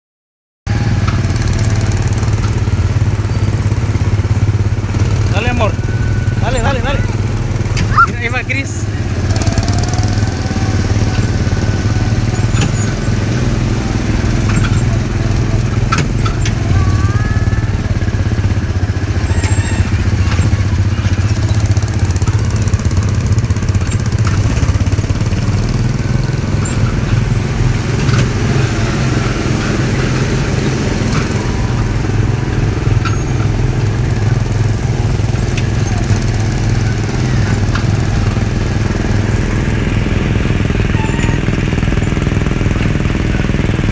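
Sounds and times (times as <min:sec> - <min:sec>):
go-kart engines droning: 0:00.7 - 0:43.9.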